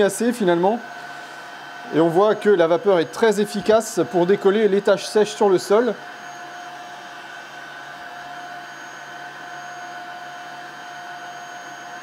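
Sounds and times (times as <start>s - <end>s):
floor cleaner motor whir: 0.0s - 12.0s.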